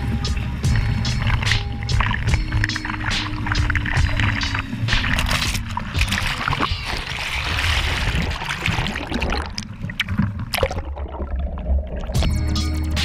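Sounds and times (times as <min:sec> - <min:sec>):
water rushing and splashing: 0:00.0 - 0:12.2
muffled underwater bubbling: 0:00.0 - 0:12.4.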